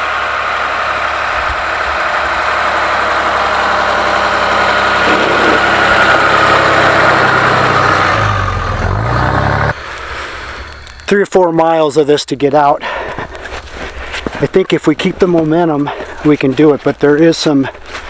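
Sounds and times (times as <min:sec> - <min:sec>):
chained tyres in snow: 0:00.0 - 0:18.0
vehicle engine pulling: 0:00.0 - 0:18.0.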